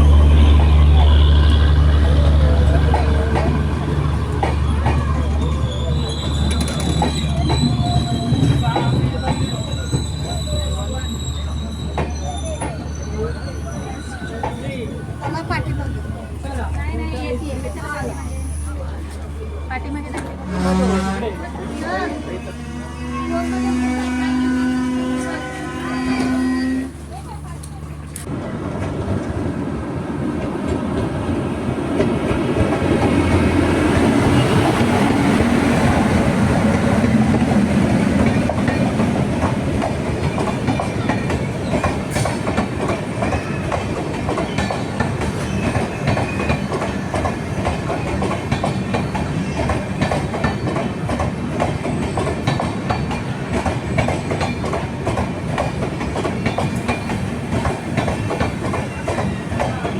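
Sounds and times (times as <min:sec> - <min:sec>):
train wheels clattering on rails: 0:00.5 - 0:16.9, 0:26.0 - 0:59.9.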